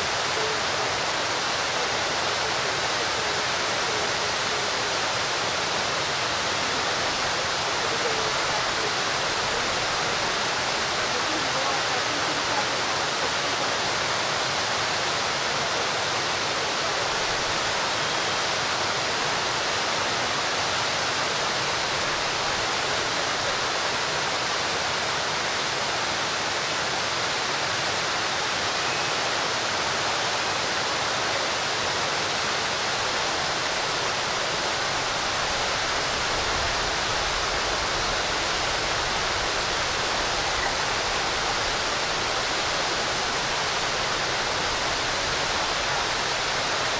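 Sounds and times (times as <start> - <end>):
fountain water splashing into pool: 0.0 - 46.9.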